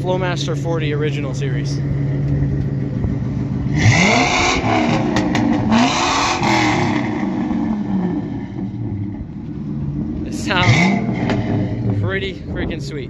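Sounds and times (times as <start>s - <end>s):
engine idling: 0.0s - 13.0s
truck engine revving: 0.0s - 13.0s.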